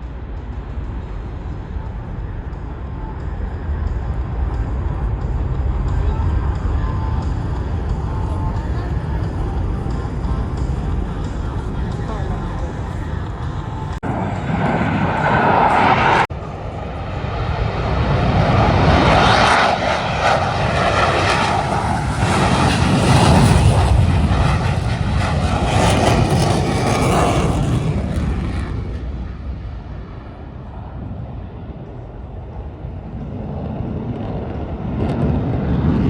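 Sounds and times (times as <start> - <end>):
airplane engine passing: 0.0 - 36.0.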